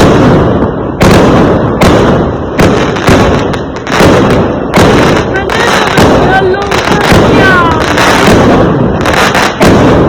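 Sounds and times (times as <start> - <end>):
fireworks exploding: 0.0 - 10.0.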